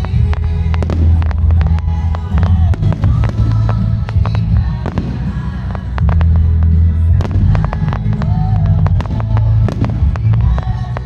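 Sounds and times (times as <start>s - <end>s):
fireworks booming and cracking: 0.0s - 11.0s
music through loudspeakers: 0.0s - 11.0s.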